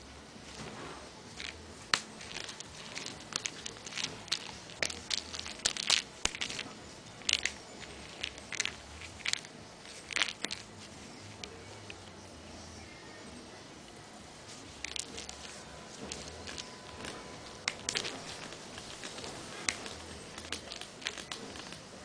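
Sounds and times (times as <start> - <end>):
toy crinkling and clicking: 1.3 - 12.2, 14.5 - 22.0.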